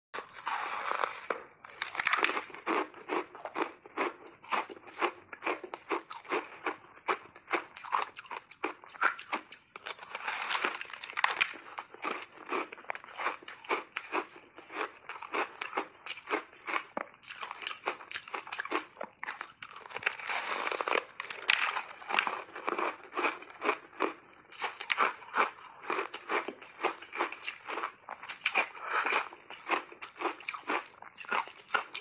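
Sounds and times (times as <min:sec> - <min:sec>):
ice crunching while chewed: 0:00.2 - 0:32.0.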